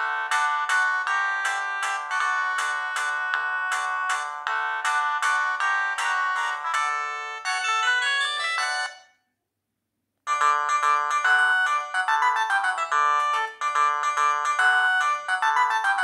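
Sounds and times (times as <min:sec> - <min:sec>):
mobile phone ringtone melody: 0:00.0 - 0:09.2, 0:10.3 - 0:16.0.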